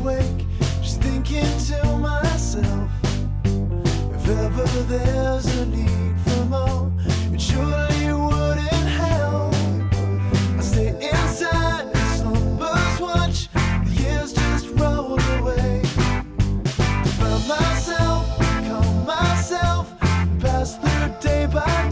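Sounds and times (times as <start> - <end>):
pop-rock song with singing: 0.0 - 21.9.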